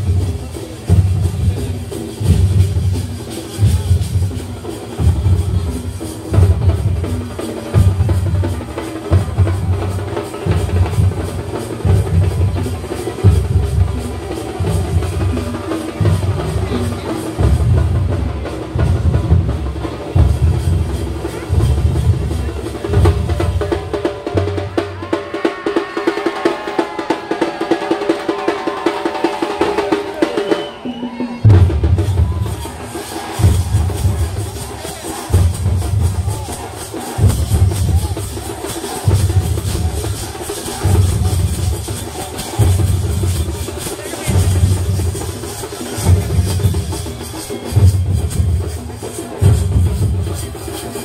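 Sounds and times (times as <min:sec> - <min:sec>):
percussion band playing: 0:00.0 - 0:51.0.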